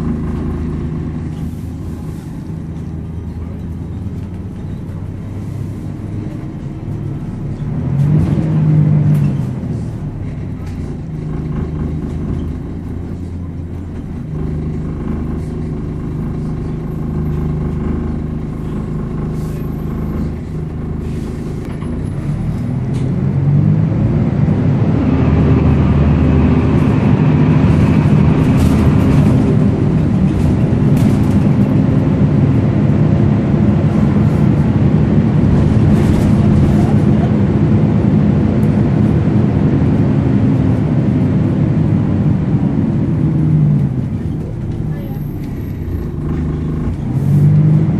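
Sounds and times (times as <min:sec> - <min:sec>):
diesel bus engine: 0:00.0 - 0:47.9.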